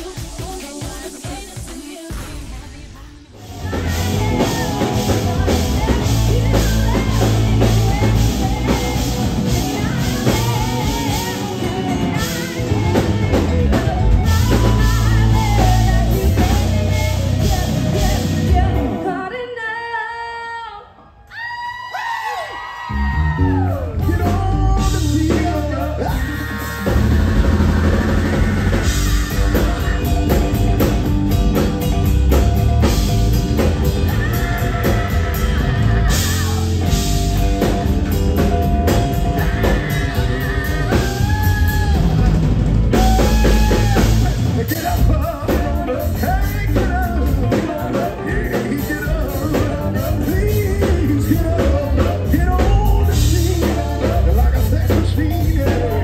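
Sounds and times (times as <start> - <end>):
live rock band playing: 0.0 - 19.6, 22.9 - 56.0
person singing: 0.0 - 21.2, 22.3 - 56.0.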